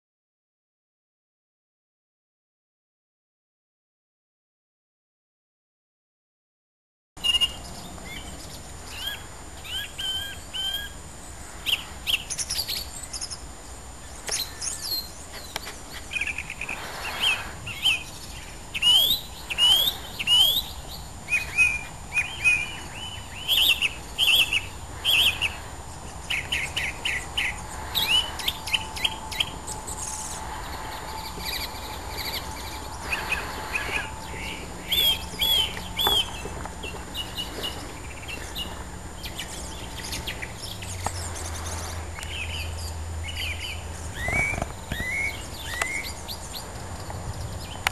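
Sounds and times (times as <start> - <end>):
songbird singing: 7.2 - 47.9.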